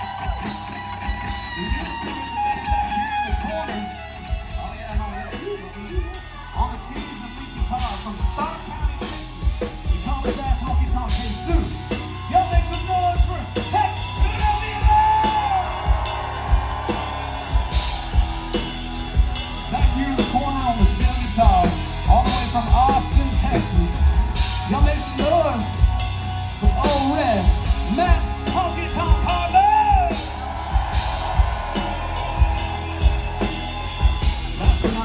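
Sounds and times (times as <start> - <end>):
electric guitars: 0.0 - 10.0, 11.1 - 35.0
bass guitar: 0.0 - 35.0
drum kit: 0.0 - 35.0.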